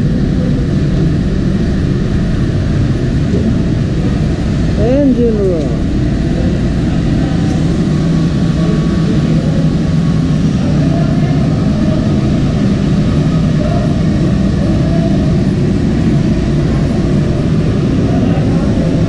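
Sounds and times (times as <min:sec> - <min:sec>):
engine-room machinery drone: 0:00.0 - 0:19.0.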